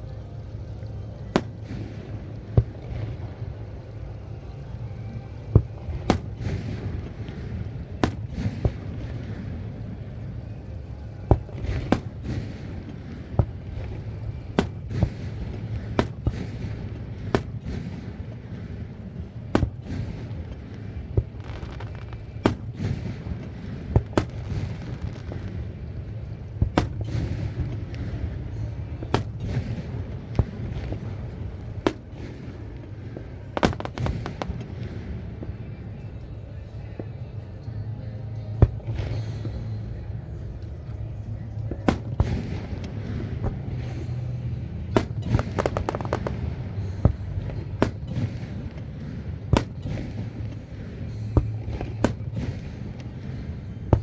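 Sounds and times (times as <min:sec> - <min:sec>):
fireworks bursting with cracks and booms: 0:00.0 - 0:37.4, 0:38.5 - 0:54.0
continuous low rumble: 0:00.0 - 0:54.0.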